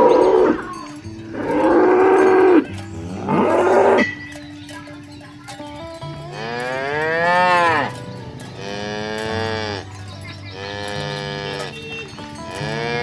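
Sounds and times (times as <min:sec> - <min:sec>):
cows mooing: 0:00.0 - 0:04.2, 0:06.1 - 0:13.0.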